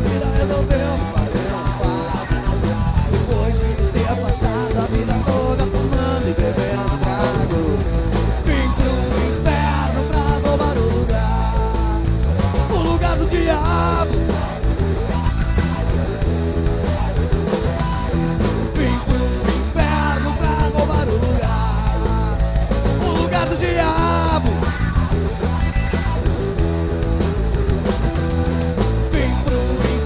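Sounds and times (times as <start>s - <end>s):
drum kit: 0.0s - 30.0s
electric bass: 0.0s - 30.0s
electric guitars: 0.0s - 30.0s.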